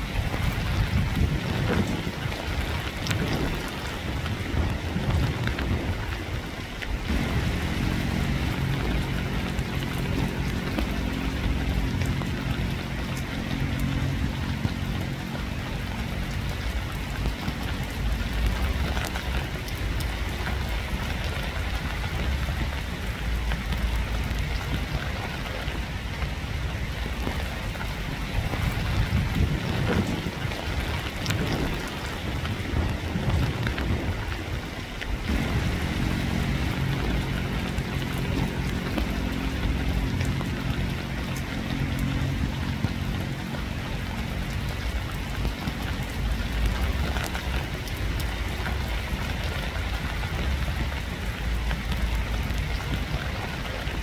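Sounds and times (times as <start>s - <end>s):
deep low rumble: 0.0s - 34.5s, 35.1s - 54.0s
low droning hum: 0.0s - 34.6s, 35.2s - 54.0s
rain falling: 0.0s - 54.0s.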